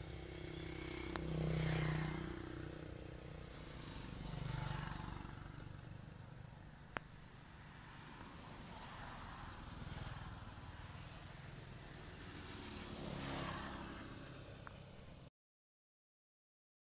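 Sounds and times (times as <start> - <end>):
motor vehicles passing: 0.0 - 15.3.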